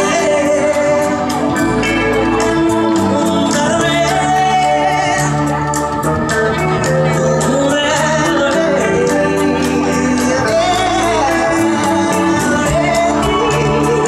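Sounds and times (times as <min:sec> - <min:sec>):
drums with cymbal beat: 0:00.0 - 0:14.0
live band music: 0:00.0 - 0:14.0
organ-like keyboard chords: 0:00.0 - 0:14.0.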